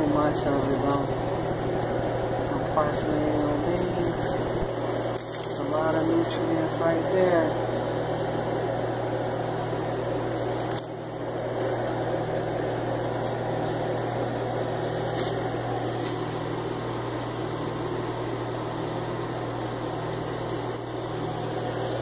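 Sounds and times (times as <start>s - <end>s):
machine hum with low drone: 0.0s - 22.0s.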